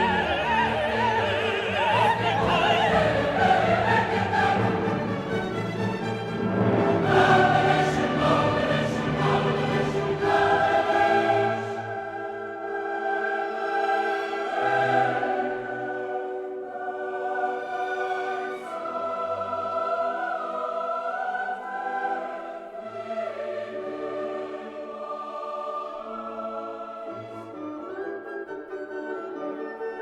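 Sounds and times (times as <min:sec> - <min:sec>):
choir singing held chords: 0:00.0 - 0:28.0.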